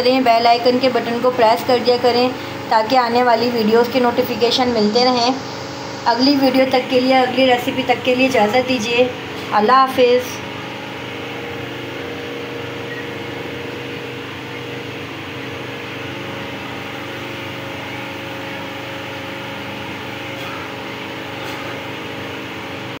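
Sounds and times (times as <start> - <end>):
motor humming and whirring: 0.0 - 23.0.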